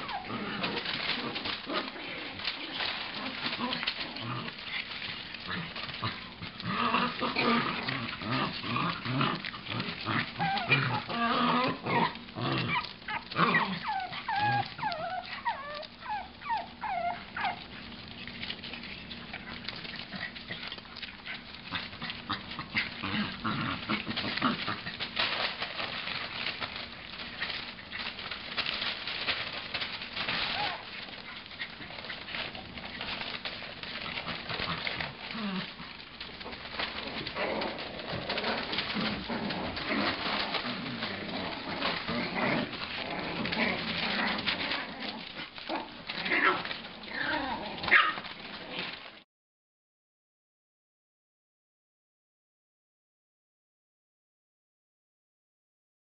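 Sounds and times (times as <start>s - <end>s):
puppies yipping and whining: 0.0s - 48.5s
clicking and rustling: 0.0s - 49.2s.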